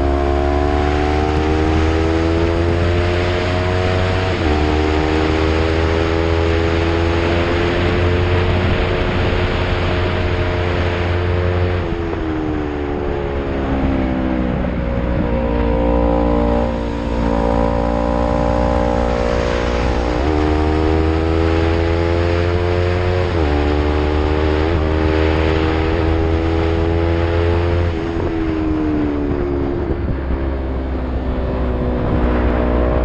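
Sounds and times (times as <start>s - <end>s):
motorcycle engine shifting gears: 0.0s - 33.0s
wind noise: 0.0s - 33.0s.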